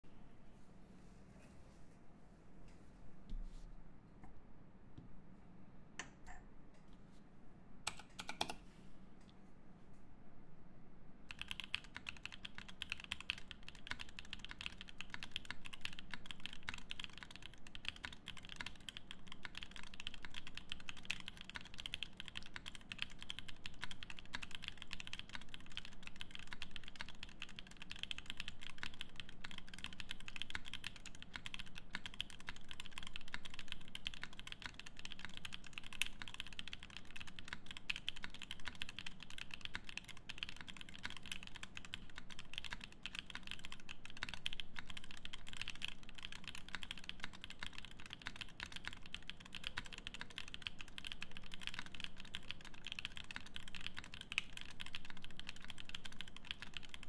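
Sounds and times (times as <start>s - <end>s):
fast typing on mechanical keyboard: 7.9s - 8.6s, 11.3s - 57.0s.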